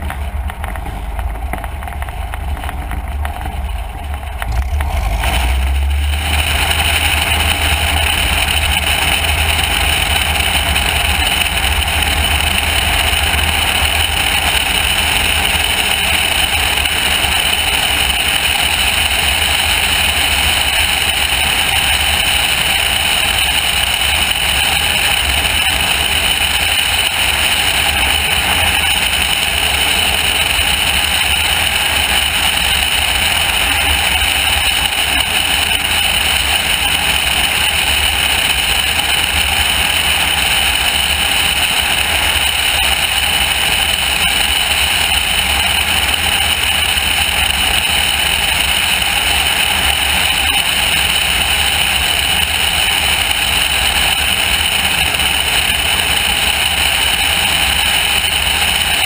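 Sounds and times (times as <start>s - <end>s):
light plane engine running: 0.0s - 59.0s.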